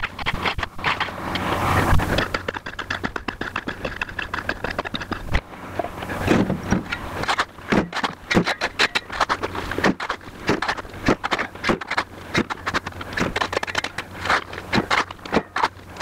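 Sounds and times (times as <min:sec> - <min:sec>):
shovel scraping rocky ground: 0:00.0 - 0:16.0.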